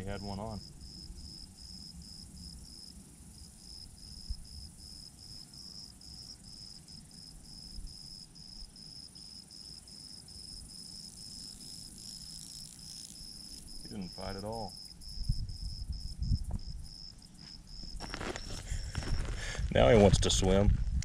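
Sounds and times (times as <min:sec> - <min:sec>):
hiss of insects: 0:00.0 - 0:20.1
insect chirping: 0:00.0 - 0:20.6.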